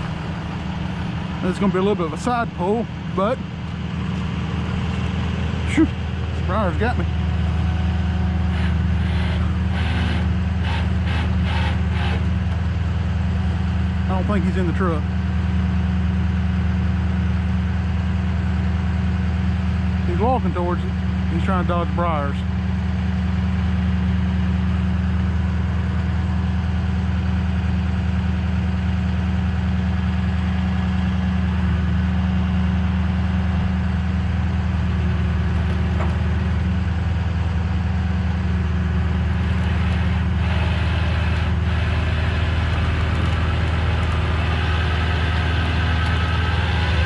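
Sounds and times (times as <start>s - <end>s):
truck engine idling: 0.0s - 47.0s.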